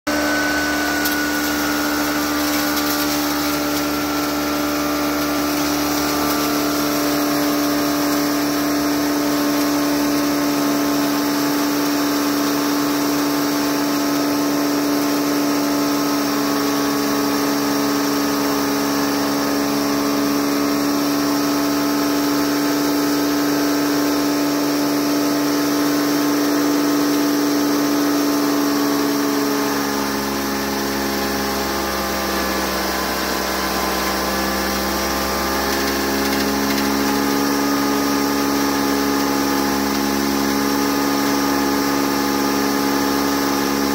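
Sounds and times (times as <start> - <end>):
hammer mill grinding hum: 0.1 - 43.9.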